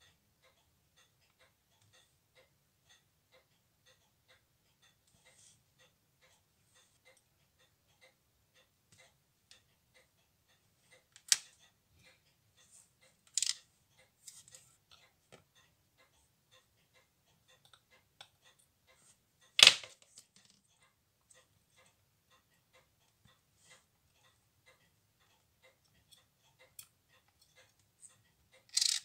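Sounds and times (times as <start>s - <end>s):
faint regular ticking: 0.0s - 29.0s.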